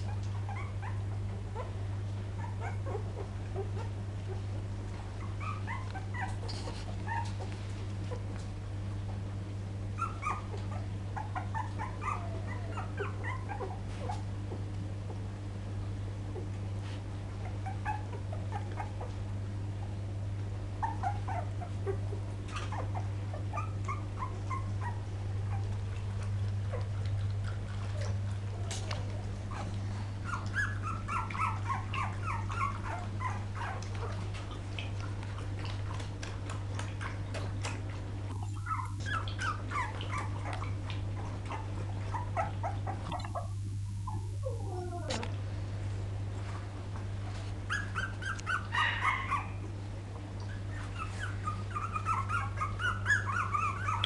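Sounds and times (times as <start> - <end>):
puppies whimpering and yipping: 0.0 - 8.4, 9.9 - 15.3, 16.3 - 20.0, 20.7 - 45.4, 46.9 - 54.0
steady low hum: 0.0 - 54.0.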